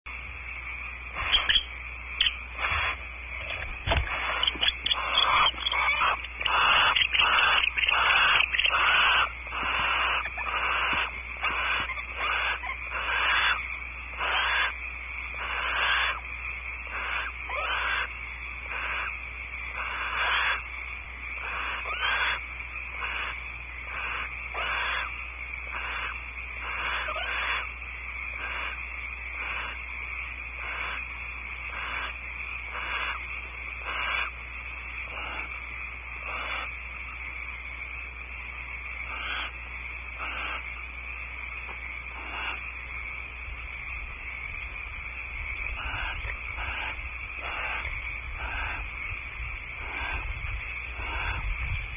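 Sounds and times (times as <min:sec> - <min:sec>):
steady low hum: 0:00.1 - 0:51.9
barn owls hissing calls: 0:00.3 - 0:51.9.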